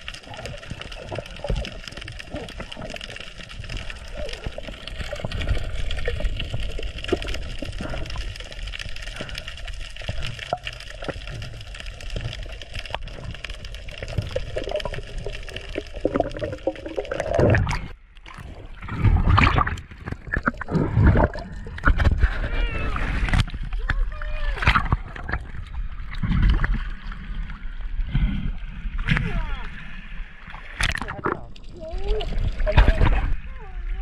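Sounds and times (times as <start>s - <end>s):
small clicks and gurgles: 0.0s - 29.8s, 30.4s - 34.0s
underwater water noise: 0.0s - 34.0s
water sloshing and splashing: 0.0s - 34.0s.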